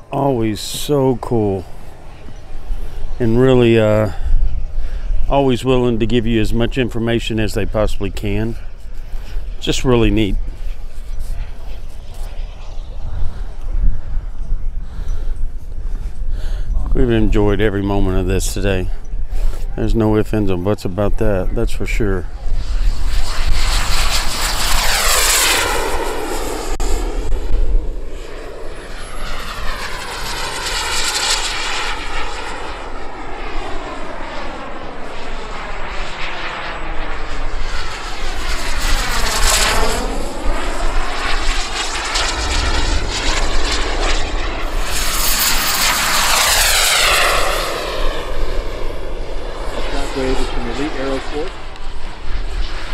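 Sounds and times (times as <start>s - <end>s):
model jet turbine whine: 0.0s - 52.9s.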